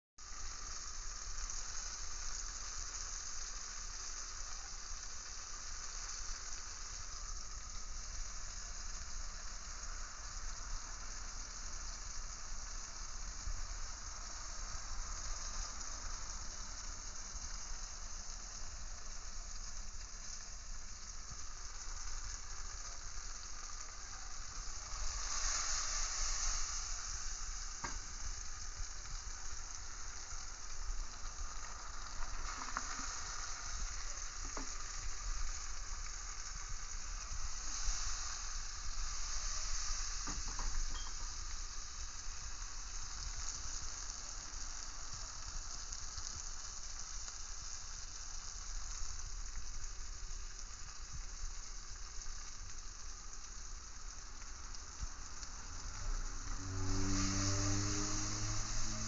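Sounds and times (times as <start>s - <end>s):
oil sizzling in a frying pan: 0.2s - 59.0s.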